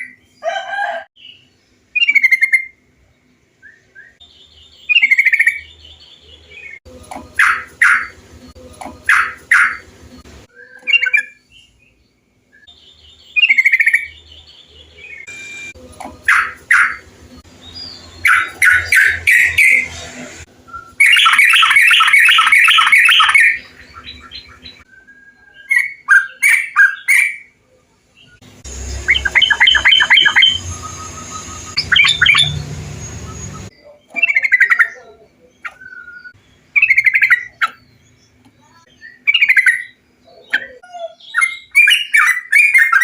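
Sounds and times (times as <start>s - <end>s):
bulbuls singing chattering phrases: 4.2s - 11.8s, 12.7s - 24.9s, 28.3s - 43.0s.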